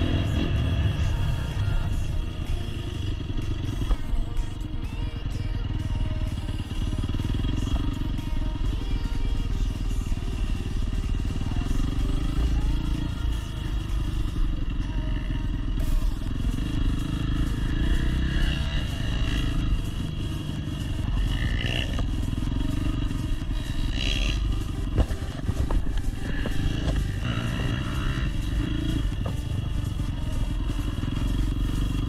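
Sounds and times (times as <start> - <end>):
dirt bike engine rumbling: 0.0 - 32.0.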